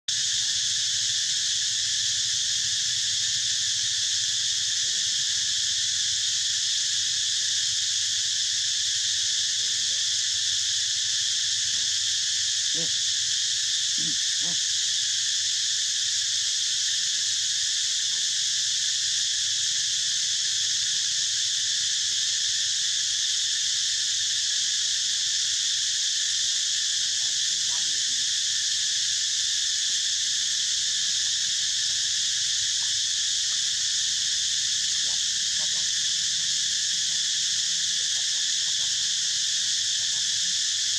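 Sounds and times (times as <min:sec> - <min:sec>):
insects buzzing: 0:00.1 - 0:40.9.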